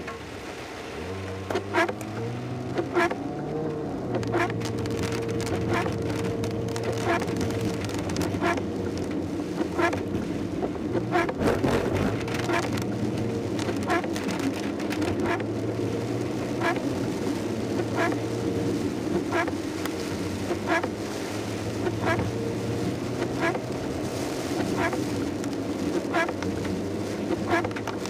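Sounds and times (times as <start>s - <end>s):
car engine humming: 0.0s - 28.0s
rain and wet tyres hissing: 0.0s - 28.0s
windscreen wipers sweeping: 0.0s - 28.0s.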